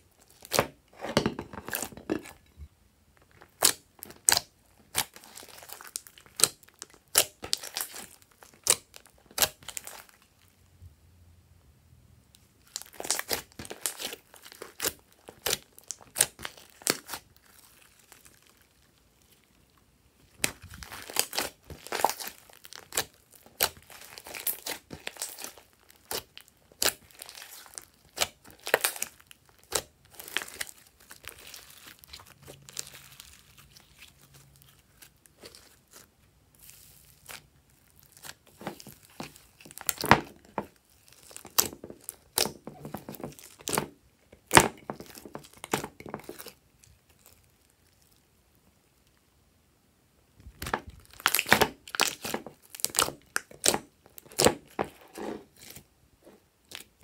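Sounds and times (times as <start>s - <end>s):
slime crackling and popping: 3.3s - 10.5s, 12.6s - 48.2s, 50.5s - 55.8s, 56.6s - 57.0s.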